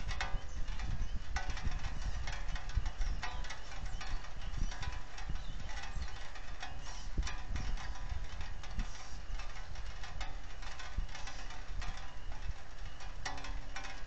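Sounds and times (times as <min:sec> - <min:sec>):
rain tapping on camera: 0:00.0 - 0:14.0
steady low rumble: 0:00.0 - 0:14.0.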